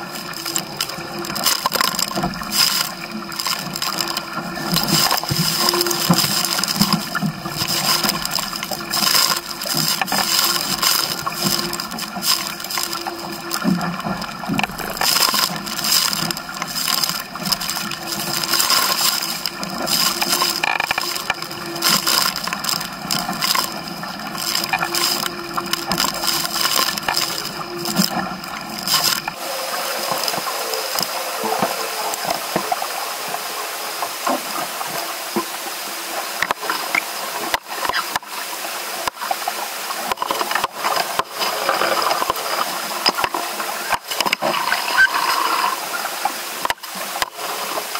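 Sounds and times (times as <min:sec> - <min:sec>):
water rushing along hull: 0:00.0 - 0:47.9.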